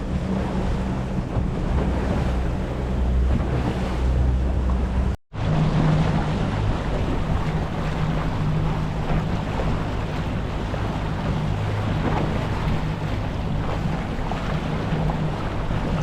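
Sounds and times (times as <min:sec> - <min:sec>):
boat engine running: 0:00.0 - 0:16.0
water rushing: 0:00.0 - 0:16.0
wind buffeting microphone: 0:00.0 - 0:16.0.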